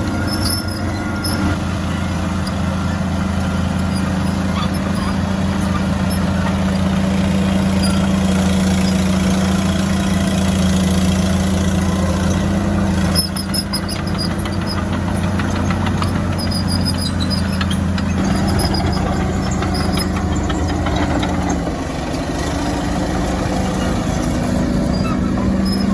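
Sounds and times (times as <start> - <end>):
high metallic squeaks and clicks: 0.0 - 1.6, 2.3 - 25.9
diesel engine running: 0.0 - 25.9.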